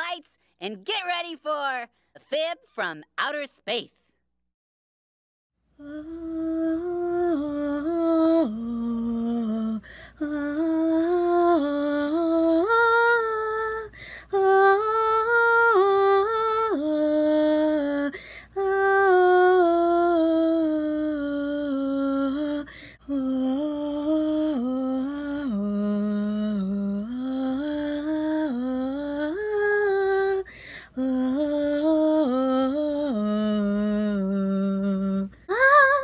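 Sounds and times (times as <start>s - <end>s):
person singing a cappella: 5.8s - 36.0s.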